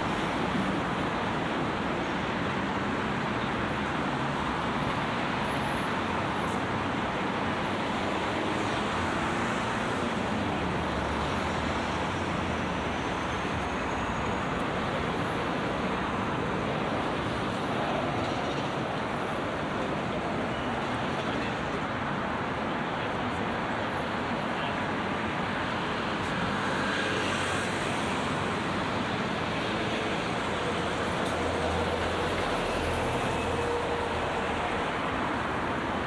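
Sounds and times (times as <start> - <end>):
road traffic noise: 0.0 - 36.0.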